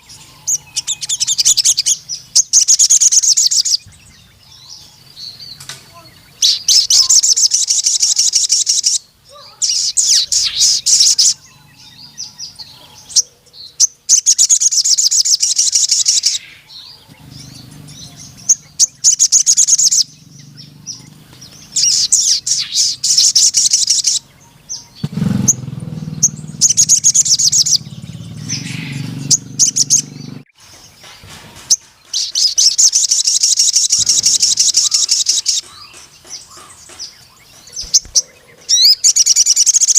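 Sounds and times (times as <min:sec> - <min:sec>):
bird singing high trills: 0:00.0 - 0:39.9.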